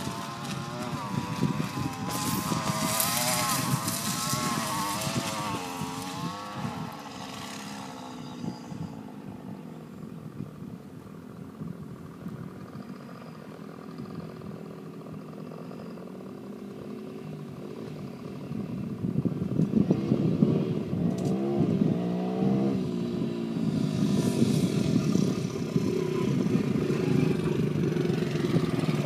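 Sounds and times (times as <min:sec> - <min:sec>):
dirt bike engine revving: 0:00.0 - 0:10.0, 0:12.0 - 0:29.0.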